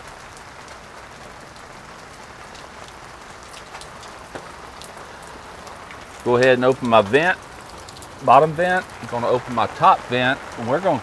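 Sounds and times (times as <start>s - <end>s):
rain falling: 0.0s - 11.0s
water splashing onto wet ground: 0.0s - 11.0s.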